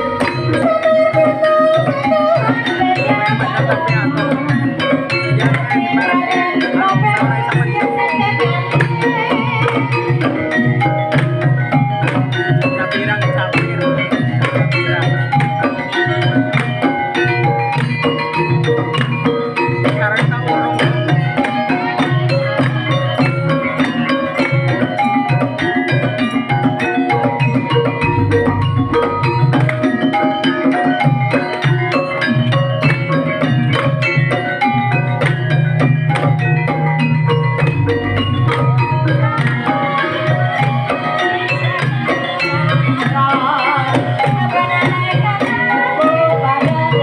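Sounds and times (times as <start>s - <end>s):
hand drum patterns: 0.0s - 47.0s
struck pitched percussion melody: 0.0s - 47.0s.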